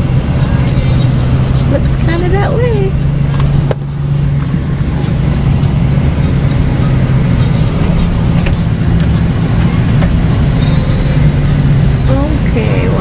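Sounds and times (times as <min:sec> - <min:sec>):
car engine drone: 0:00.0 - 0:13.0
road noise inside car: 0:00.0 - 0:13.0.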